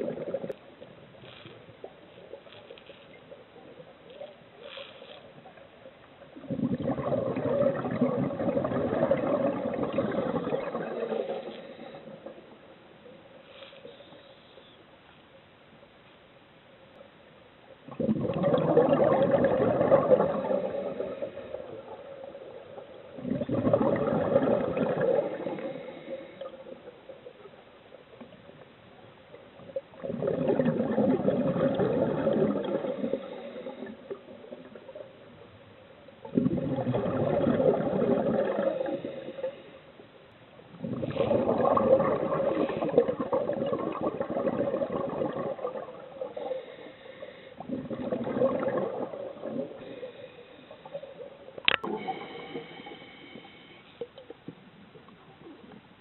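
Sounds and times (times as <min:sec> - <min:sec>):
scuba bubbles gurgling: 0:00.0 - 0:12.7, 0:17.8 - 0:40.0, 0:40.6 - 0:55.8.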